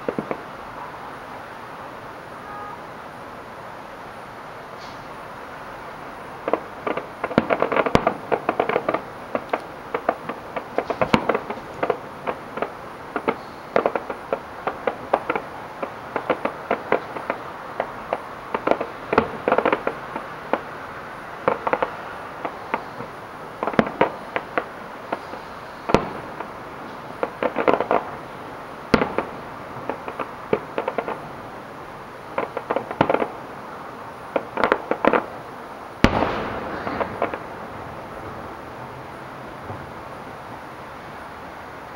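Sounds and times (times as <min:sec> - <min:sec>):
fireworks popping and crackling: 0:00.0 - 0:00.9, 0:04.8 - 0:40.7
fireworks bangs: 0:00.0 - 0:01.4, 0:04.6 - 0:41.3.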